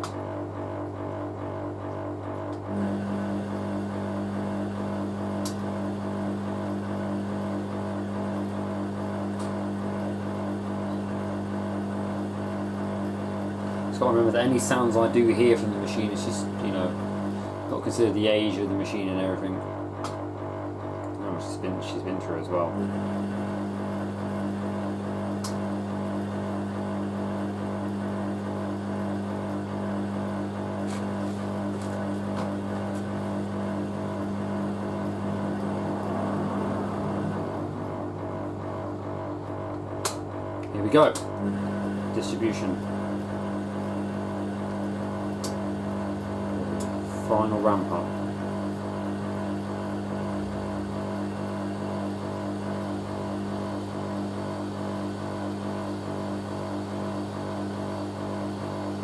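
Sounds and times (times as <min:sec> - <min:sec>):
washing machine drain pump humming: 0:00.0 - 0:59.0
higher-pitched hum: 0:02.5 - 0:20.2, 0:21.1 - 0:55.1.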